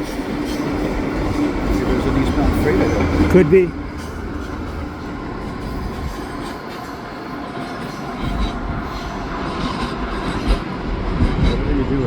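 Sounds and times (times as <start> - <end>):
high wheel tones: 0.0 - 10.6
train wheels rumbling on rails: 0.0 - 12.0.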